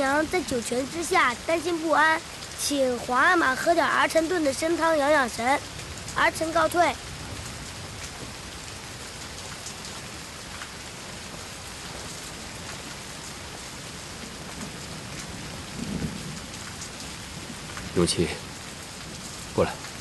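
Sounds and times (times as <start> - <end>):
rain on hard surfaces: 0.0 - 20.0.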